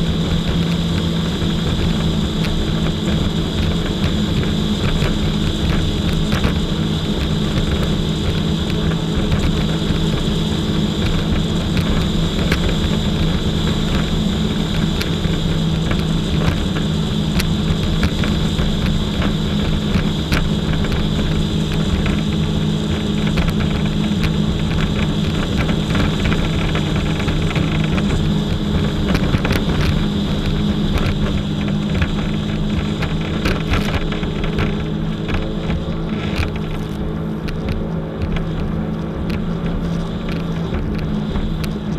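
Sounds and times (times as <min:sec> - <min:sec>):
jet ski engine droning: 0:00.0 - 0:41.9.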